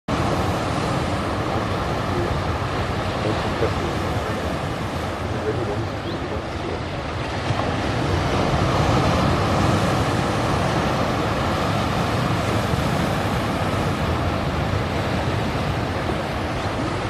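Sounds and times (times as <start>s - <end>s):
sea surf washing among boulders: 0.1s - 17.0s.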